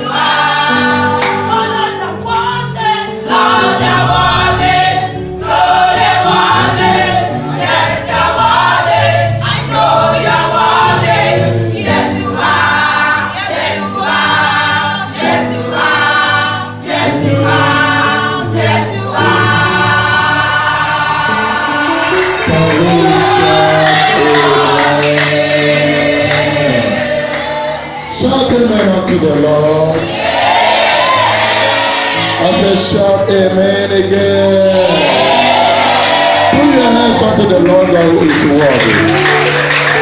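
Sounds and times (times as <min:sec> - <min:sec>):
choir singing gospel song: 0:00.0 - 0:40.0.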